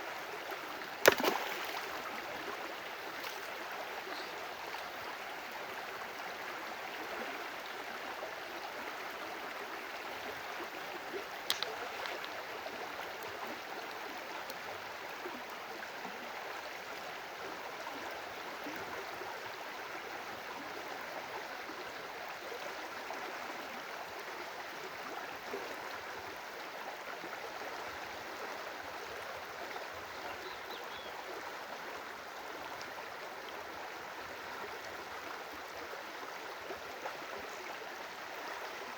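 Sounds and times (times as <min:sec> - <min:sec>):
stream of running water: 0:00.0 - 0:38.9.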